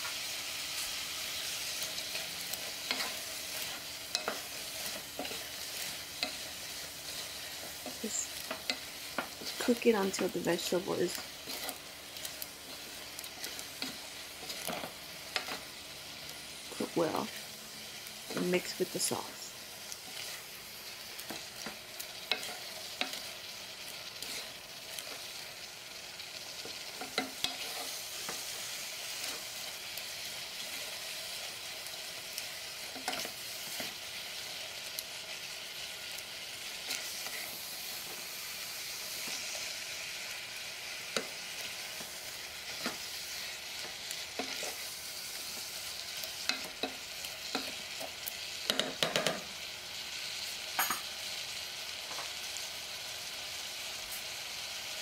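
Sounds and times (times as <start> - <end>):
food sizzling in pot: 0.0 - 55.0.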